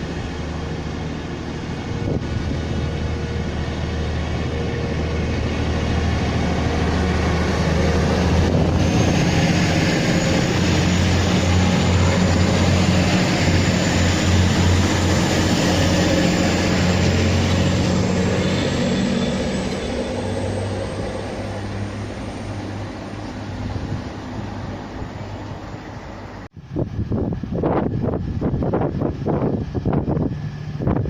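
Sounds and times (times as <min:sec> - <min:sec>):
train engine drone: 0:00.0 - 0:31.0
train rushing noise: 0:00.0 - 0:31.0.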